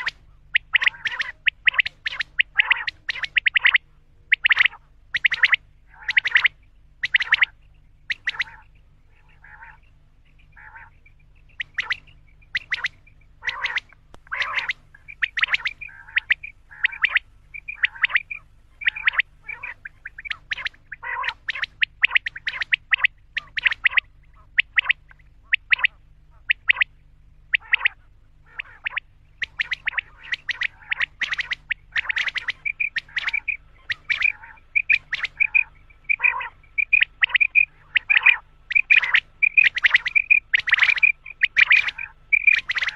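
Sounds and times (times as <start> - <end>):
quail calling: 0.0 - 42.9.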